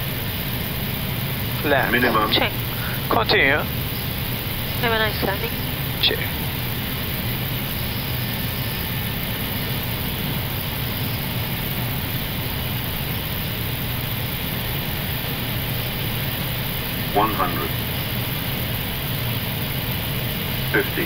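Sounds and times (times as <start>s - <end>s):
aircraft engine hum: 0.0s - 21.0s
airflow over airframe: 0.0s - 21.0s.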